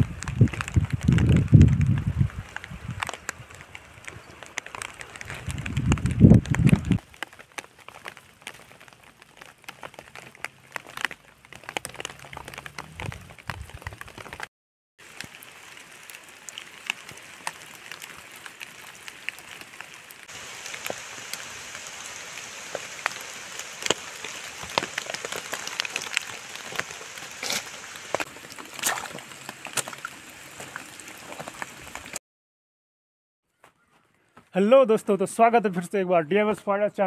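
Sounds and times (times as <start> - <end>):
rain falling: 0.0 - 32.2
raindrops ticking close by: 0.0 - 32.2.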